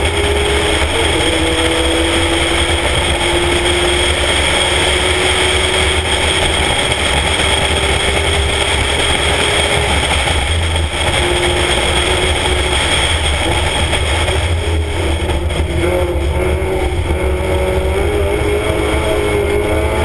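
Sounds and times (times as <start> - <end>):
race car engine running under load: 0.0 - 20.0
wind rumble on microphone: 0.0 - 20.0.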